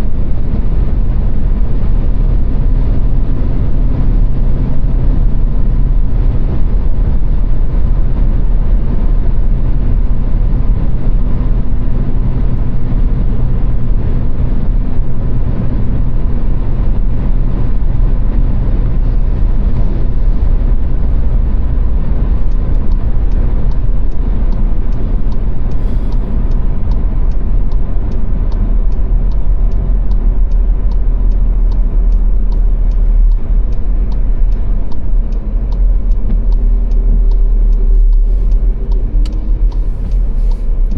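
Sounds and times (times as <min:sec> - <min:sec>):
low engine rumble: 0:00.0 - 0:40.9
road and tyre noise: 0:00.0 - 0:40.9
light regular ticking: 0:06.0 - 0:40.9.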